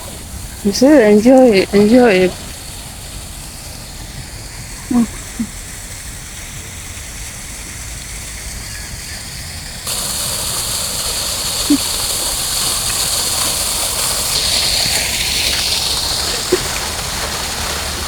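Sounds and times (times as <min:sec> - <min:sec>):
running water splashing: 0:00.0 - 0:18.0.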